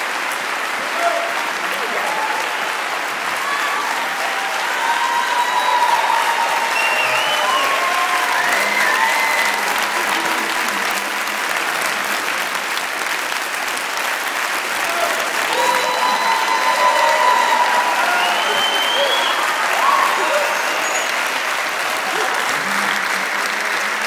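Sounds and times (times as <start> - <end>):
audience applause: 0.0 - 24.0.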